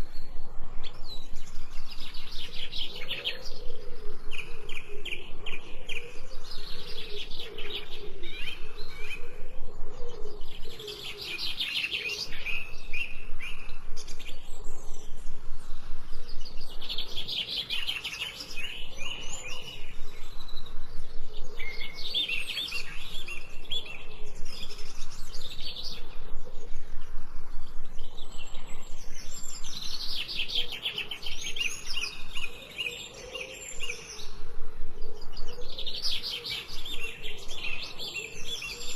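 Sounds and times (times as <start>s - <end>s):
small birds chirping trills: 0.0s - 38.9s.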